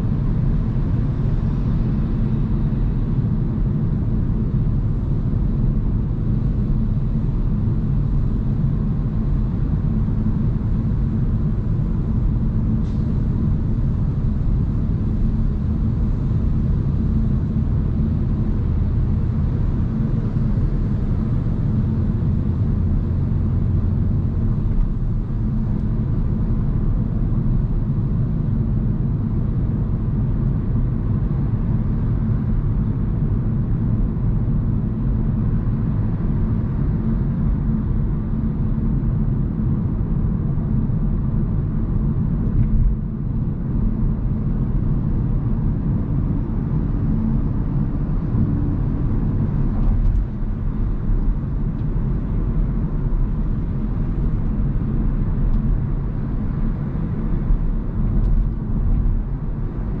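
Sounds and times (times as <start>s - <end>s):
road and tyre noise: 0.0s - 60.0s.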